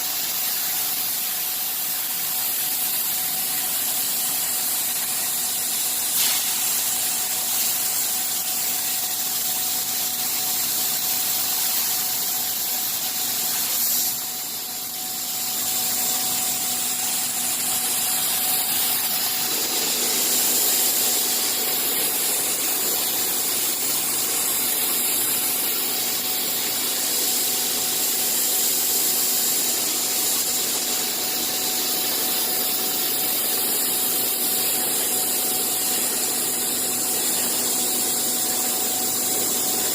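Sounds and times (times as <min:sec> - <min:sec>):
machine hiss and hum: 0:00.0 - 0:39.9.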